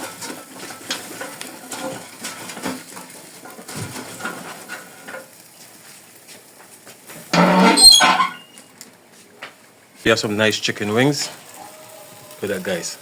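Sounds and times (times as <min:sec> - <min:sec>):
clinks of coals and grill tools: 0:00.0 - 0:09.6, 0:10.6 - 0:13.0.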